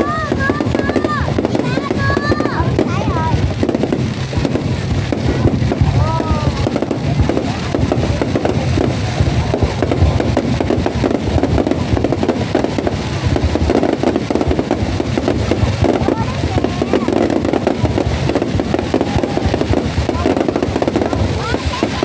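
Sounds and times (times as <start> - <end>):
fireworks bangs and crackles: 0.0 - 22.0
fireworks whistling: 0.0 - 22.0.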